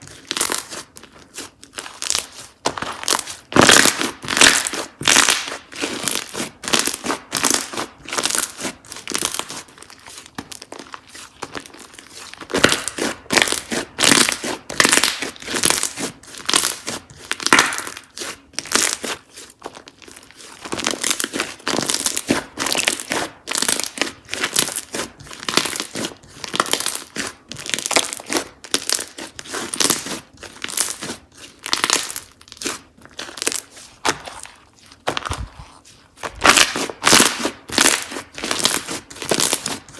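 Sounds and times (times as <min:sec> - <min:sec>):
slime squeezed by hand: 0:00.0 - 0:39.9.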